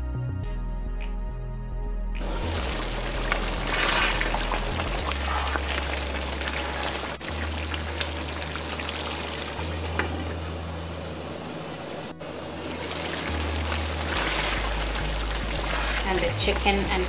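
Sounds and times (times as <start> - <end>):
curry bubbling and popping: 2.2 - 10.6, 11.2 - 17.0.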